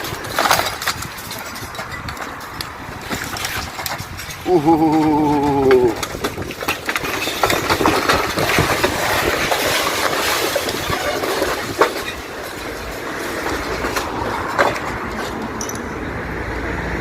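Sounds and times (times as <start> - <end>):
train wheels clattering on rails: 0.0 - 16.1.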